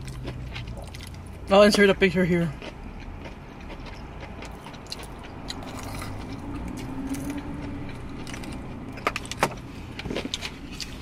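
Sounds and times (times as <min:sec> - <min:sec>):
chewing and mouth smacks: 0:00.0 - 0:01.4, 0:02.6 - 0:11.0
steady low hum: 0:00.0 - 0:11.0.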